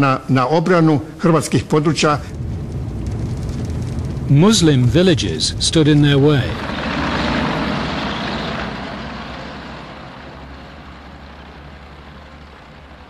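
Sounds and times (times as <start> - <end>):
vehicle engine and road noise: 2.2 - 13.0.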